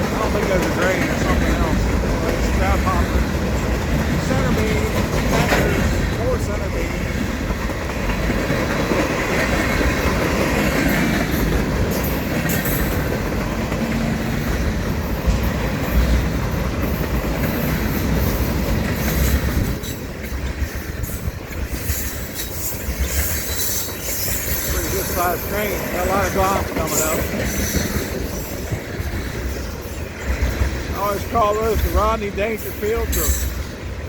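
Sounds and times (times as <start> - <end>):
steel wheels rumbling on rail: 0.0 - 34.0
wheels clacking over rail joints: 0.0 - 34.0.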